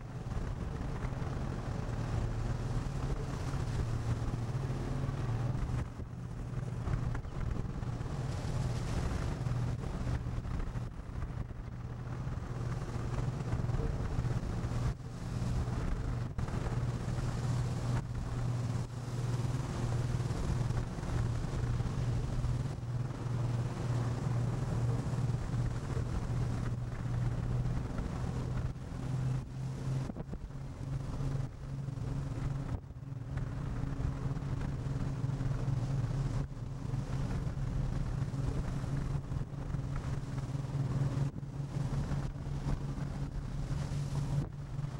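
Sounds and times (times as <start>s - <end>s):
boat diesel engine humming: 0.0s - 44.9s
sea noise: 0.0s - 44.9s
wind buffeting microphone: 0.0s - 44.9s.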